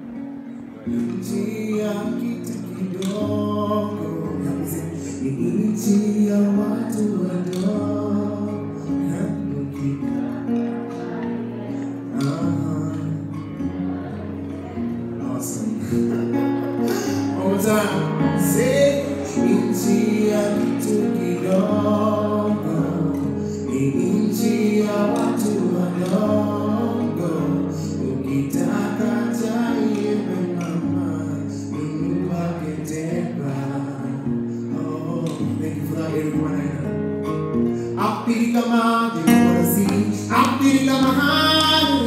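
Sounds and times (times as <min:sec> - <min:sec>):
acoustic guitar: 0:00.0 - 0:42.0
man singing: 0:00.0 - 0:42.0.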